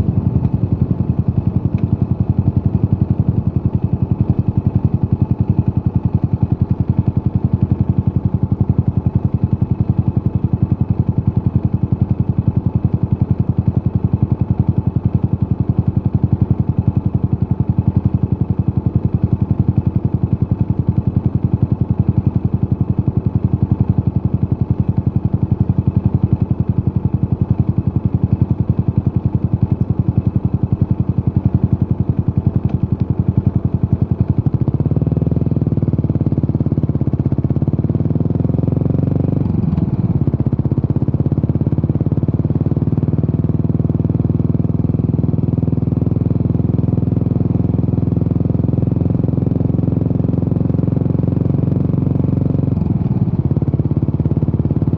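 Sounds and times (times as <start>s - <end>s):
motorcycle engine running steadily: 0.0s - 54.9s.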